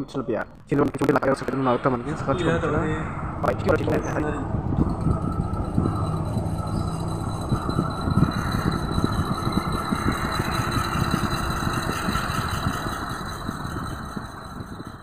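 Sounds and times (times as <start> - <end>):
ceiling fan whirring: 0.0 - 15.0
low rattle: 0.6 - 15.0.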